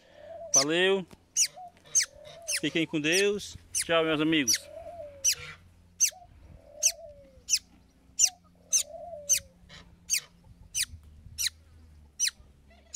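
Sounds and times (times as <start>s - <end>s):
softer low bird calls: 0.0s - 12.9s
bird chirping: 0.3s - 12.9s.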